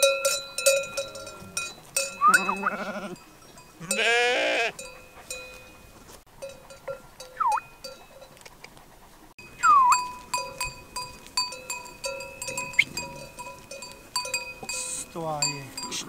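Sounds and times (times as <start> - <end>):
animal bells clanking: 0.0 - 8.6, 9.4 - 16.0.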